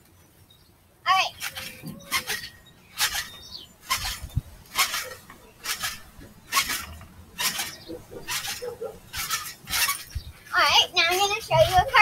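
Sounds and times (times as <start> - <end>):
trampoline springs squeaking: 0.2 - 12.0.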